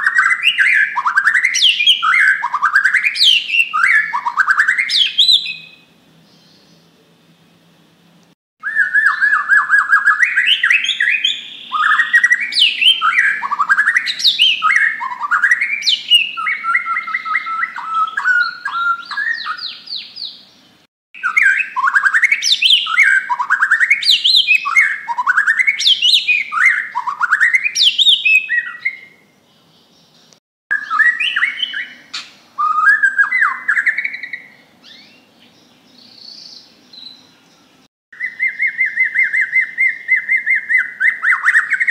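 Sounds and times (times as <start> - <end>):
songbird whistling song: 0.0 - 6.9, 8.6 - 41.9.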